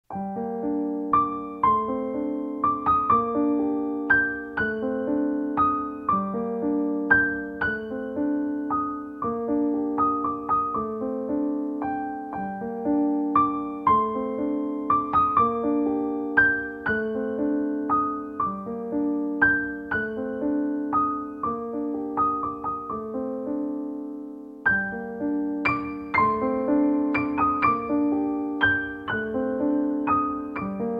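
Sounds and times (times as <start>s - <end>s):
slow gentle piano piece: 0.1s - 30.9s.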